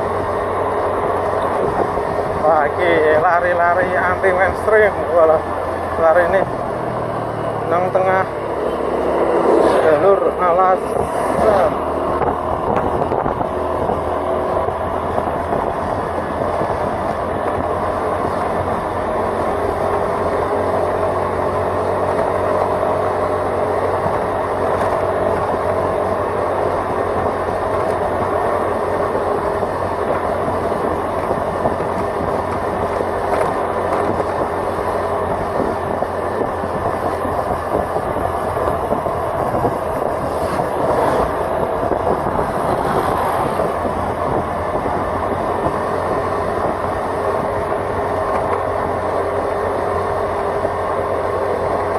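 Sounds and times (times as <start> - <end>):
vehicle engine and road noise: 0.0 - 51.9.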